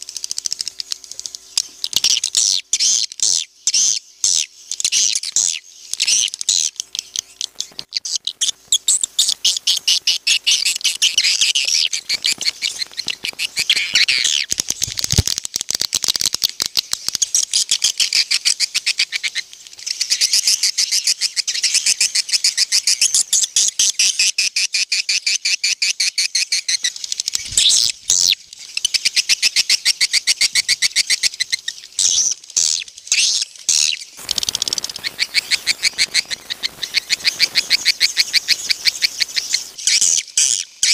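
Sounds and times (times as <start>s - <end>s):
swiftlet chittering twitters: 0.0s - 24.1s, 26.5s - 40.9s.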